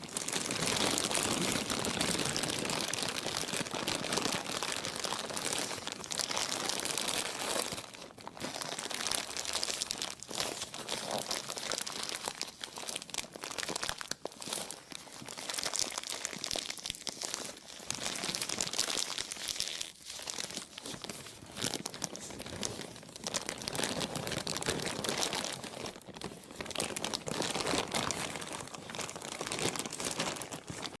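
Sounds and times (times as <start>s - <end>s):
plastic crinkling: 0.0s - 31.0s.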